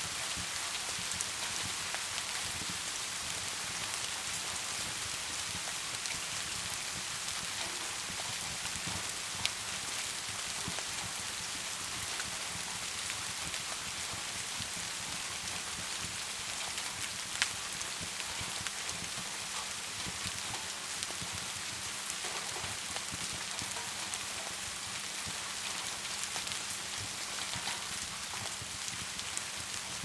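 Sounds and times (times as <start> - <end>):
rain hissing: 0.0 - 30.0
wood fire crackling: 0.0 - 30.0.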